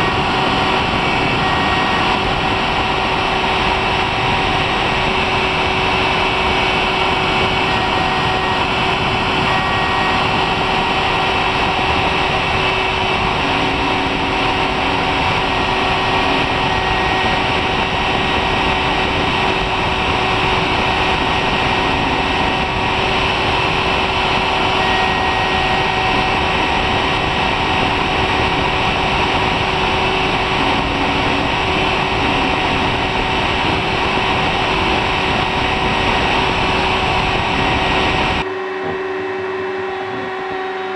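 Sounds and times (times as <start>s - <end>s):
engraving machine humming: 0.0s - 40.9s
short low tones: 0.0s - 40.9s.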